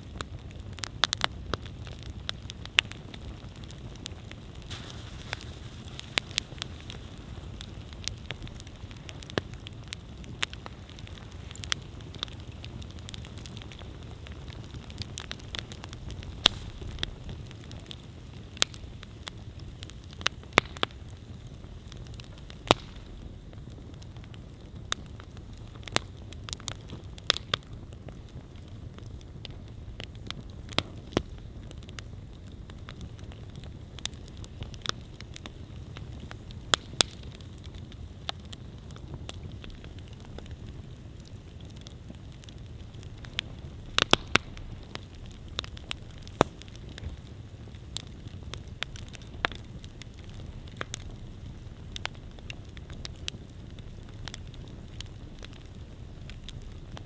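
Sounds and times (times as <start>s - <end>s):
campfire crackling and hissing: 0.0s - 57.0s
sharp fire pops: 0.0s - 57.0s.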